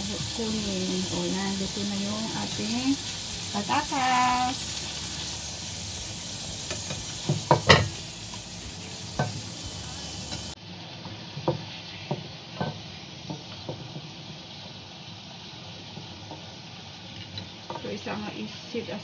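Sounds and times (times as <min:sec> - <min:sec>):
potato slices sizzling in oil: 0:00.0 - 0:19.0.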